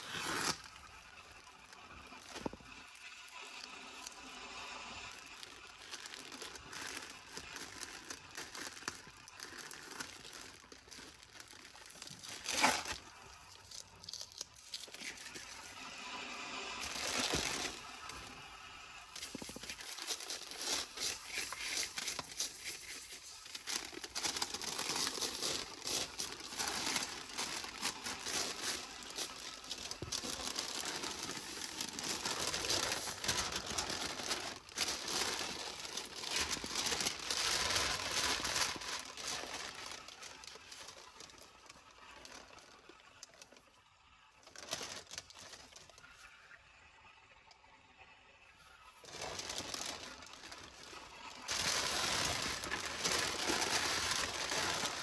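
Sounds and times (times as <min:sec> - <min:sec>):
plastic and paper crinkling: 0:00.0 - 0:43.7, 0:44.4 - 0:46.3, 0:48.8 - 0:55.0.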